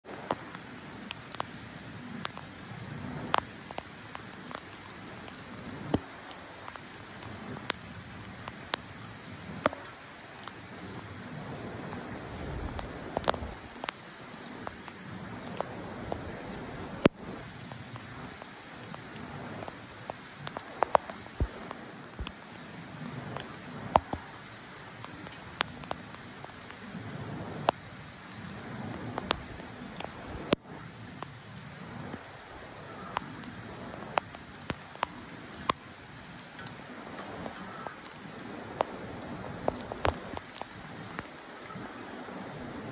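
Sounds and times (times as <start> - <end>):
light rain hissing: 0.0 - 42.9
raindrops ticking on hard surfaces: 0.0 - 42.9.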